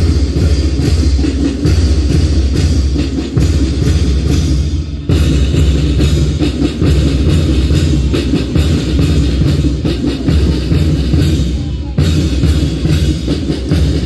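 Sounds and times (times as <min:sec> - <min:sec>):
bass and side drums beating: 0:00.0 - 0:14.0.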